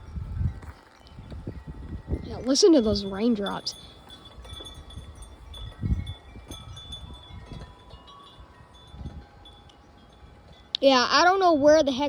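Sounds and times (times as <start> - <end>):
wind buffeting on microphone: 0.0 - 12.0
wind chimes ringing: 0.0 - 12.0.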